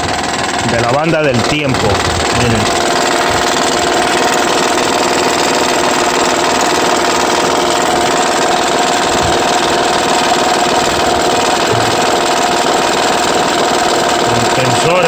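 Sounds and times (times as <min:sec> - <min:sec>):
engine clattering rattle: 0:00.0 - 0:15.0.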